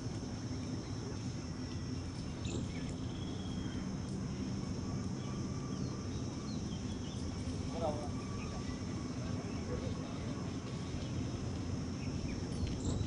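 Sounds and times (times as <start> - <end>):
insects trilling: 0.0 - 13.0
low steady hum: 0.0 - 13.0.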